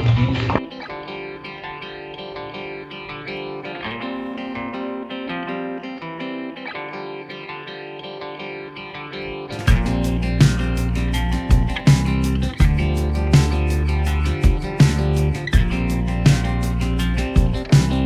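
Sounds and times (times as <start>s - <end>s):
picked guitar music: 0.1s - 18.0s.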